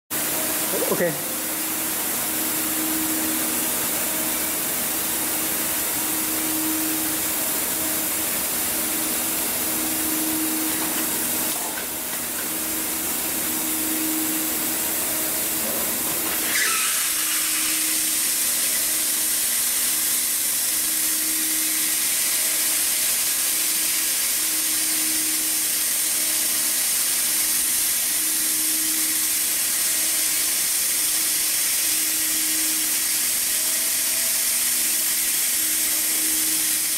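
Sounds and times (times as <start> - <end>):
low machine hum: 0.1 - 36.9
hot air blowing hiss: 0.2 - 36.9.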